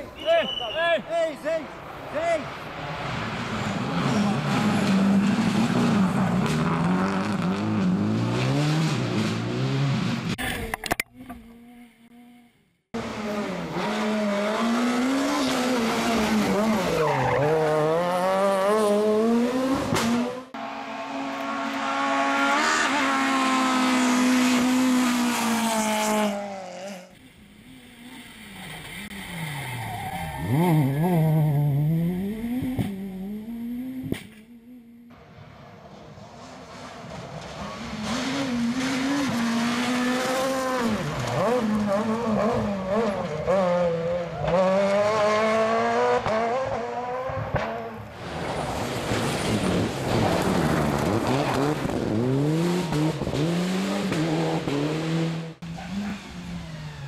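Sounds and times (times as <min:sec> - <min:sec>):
rally car engines at full throttle: 0:01.6 - 0:11.7, 0:12.9 - 0:57.0.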